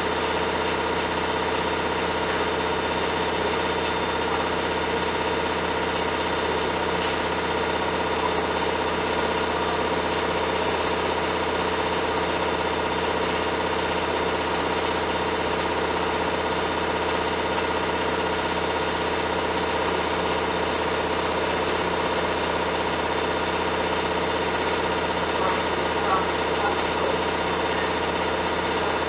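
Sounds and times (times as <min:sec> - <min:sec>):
washing machine motor hum and whine: 0:00.0 - 0:29.0.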